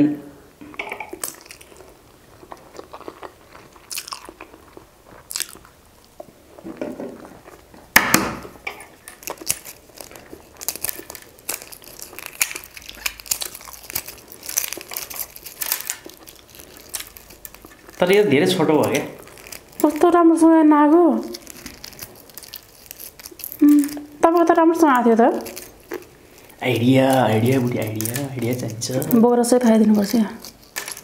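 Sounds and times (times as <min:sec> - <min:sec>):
chewing: 0:00.6 - 0:06.6, 0:08.8 - 0:20.4, 0:21.0 - 0:31.0
eggshell crackling: 0:00.6 - 0:31.0.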